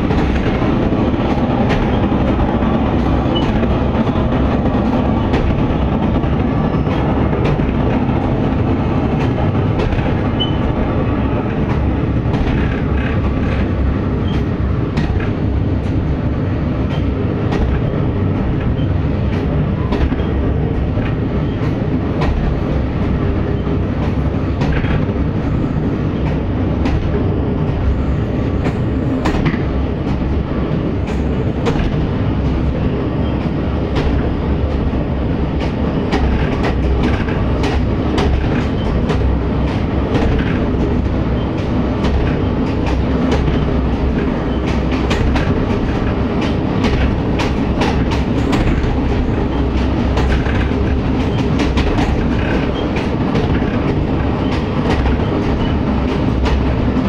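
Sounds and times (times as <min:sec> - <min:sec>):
railcar engine and wheels drone: 0:00.0 - 0:57.0.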